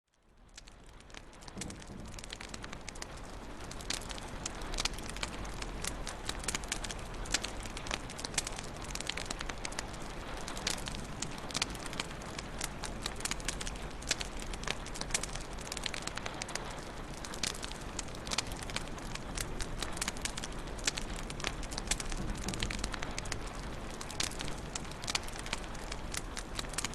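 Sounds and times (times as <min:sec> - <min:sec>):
fire crackling and popping: 0:00.1 - 0:26.9
fire hissing and rumbling: 0:00.2 - 0:26.9.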